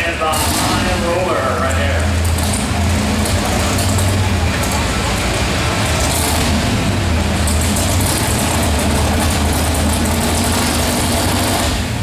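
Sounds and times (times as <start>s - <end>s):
truck engine running under load: 0.0s - 12.0s.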